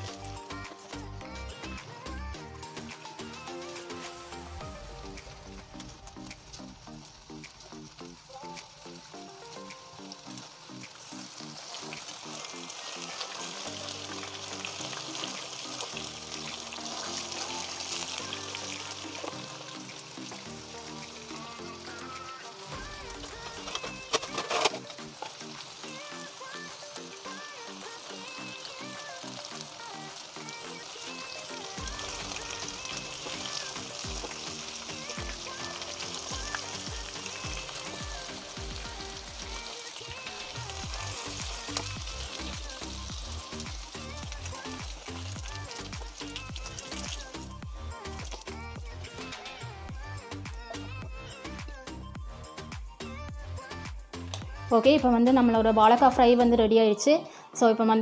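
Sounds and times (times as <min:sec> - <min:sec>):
background music of low chords: 0:00.0 - 0:58.0
plantain frying in hot oil: 0:02.6 - 0:51.8.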